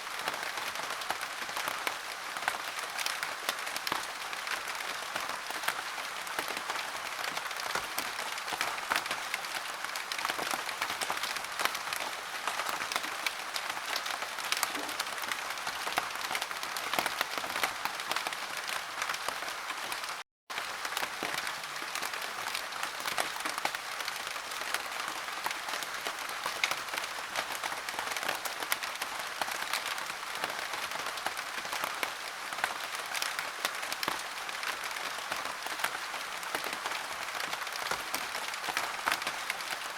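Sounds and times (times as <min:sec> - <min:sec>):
dense rain: 0:00.0 - 0:39.9.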